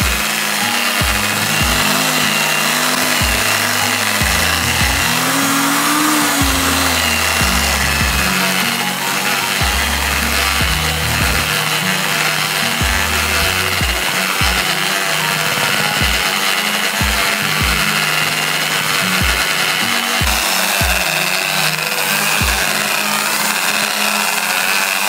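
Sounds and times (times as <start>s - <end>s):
background music with steady beat: 0.0s - 25.0s
electric drill with wire brush: 0.0s - 25.0s.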